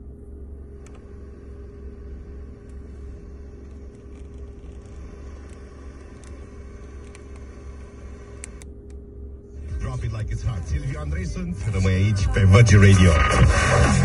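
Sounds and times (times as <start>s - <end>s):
car cabin rumble: 0.0s - 14.0s
faint hum: 0.0s - 14.0s.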